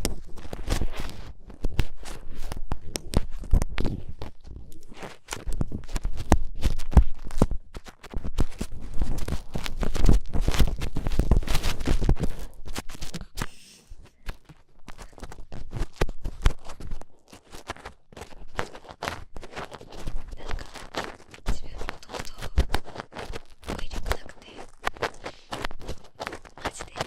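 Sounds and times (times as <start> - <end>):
scratching and rubbing on microphone: 0.0 - 27.0.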